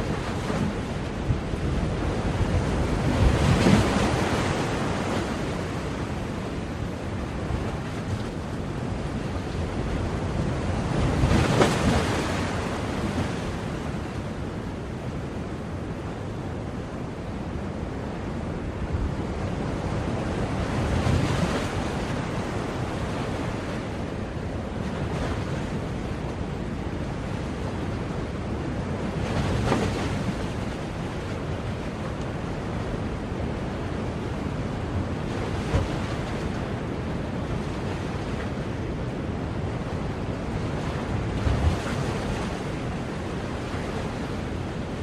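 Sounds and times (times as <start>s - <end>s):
ocean waves breaking: 0.0s - 15.0s, 18.6s - 45.0s.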